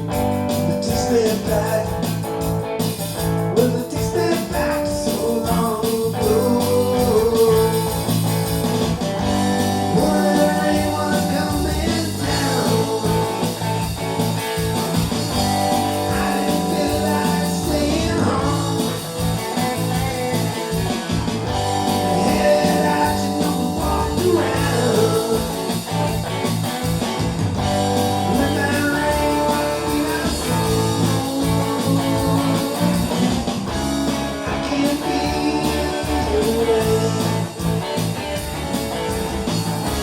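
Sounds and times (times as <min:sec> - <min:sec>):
rock song with guitar and singing: 0:00.0 - 0:40.0.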